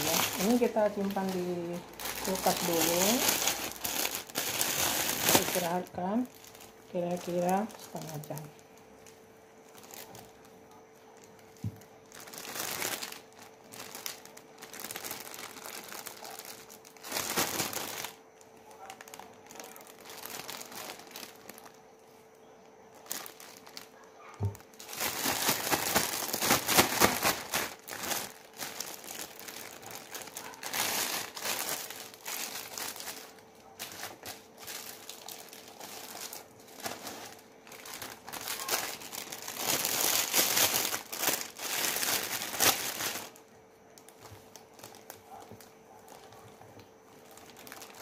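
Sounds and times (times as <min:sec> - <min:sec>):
plastic bag crinkling: 0:00.0 - 0:48.0.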